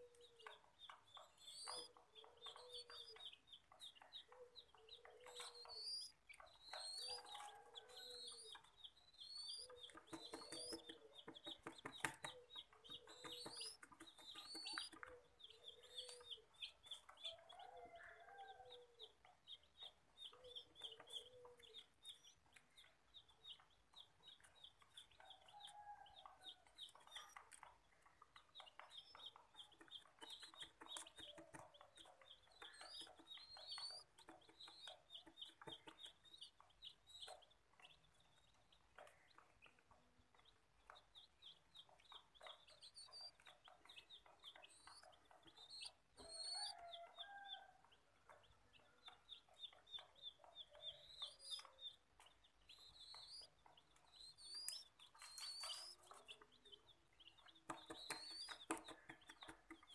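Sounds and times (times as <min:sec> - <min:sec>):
young bird peeping: 0:00.0 - 0:59.9.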